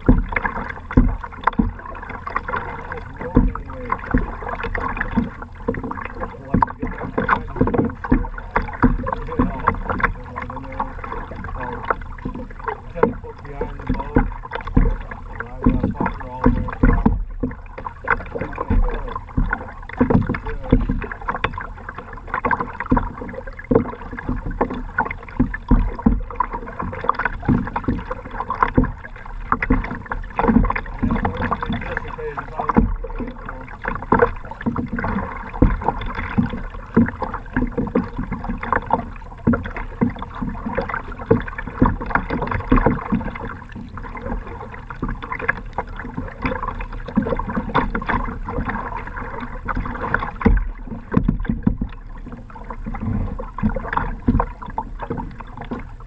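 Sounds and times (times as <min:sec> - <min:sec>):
water splashing against kayak: 0:00.0 - 0:56.0.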